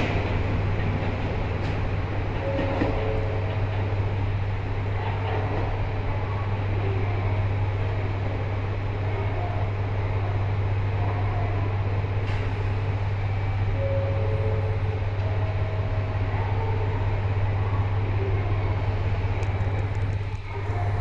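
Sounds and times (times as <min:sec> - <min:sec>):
diesel railcar pulling away: 0:00.0 - 0:21.0
low train hum: 0:00.0 - 0:21.0.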